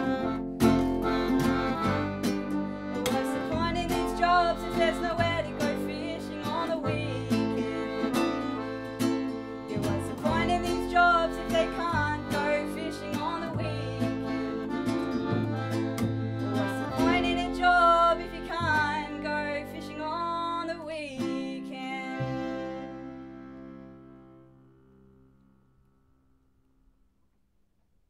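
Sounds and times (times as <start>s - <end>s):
piano accordion: 0.0s - 24.7s
plucked double bass: 0.0s - 25.2s
strummed cittern: 0.0s - 27.0s.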